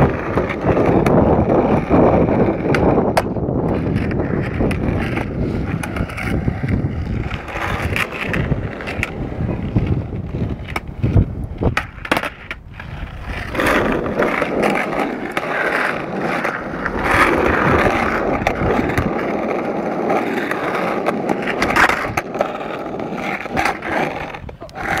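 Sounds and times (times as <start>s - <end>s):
skateboard clacking on ground: 0.0s - 25.0s
skateboard wheels rolling on tarmac: 0.0s - 25.0s.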